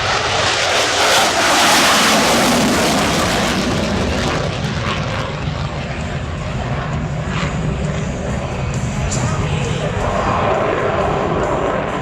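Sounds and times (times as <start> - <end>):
jet passing: 0.0 - 12.0.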